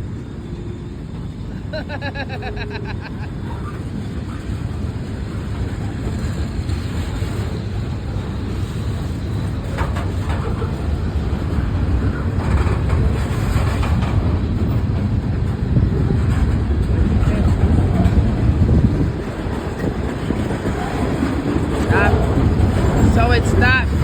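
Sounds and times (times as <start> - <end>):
train rattles: 0.0 - 24.0
train wheels rumbling on rail: 0.0 - 24.0.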